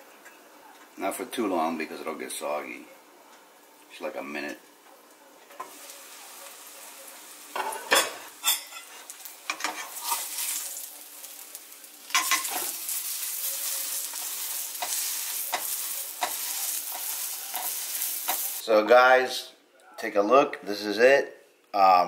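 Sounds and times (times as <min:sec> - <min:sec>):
food sizzling in a pan: 0:00.0 - 0:18.7.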